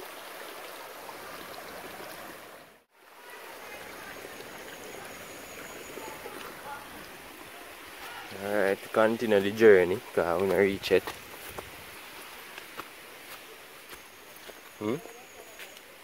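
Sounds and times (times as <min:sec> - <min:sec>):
stream running over rocks: 0:00.0 - 0:16.0.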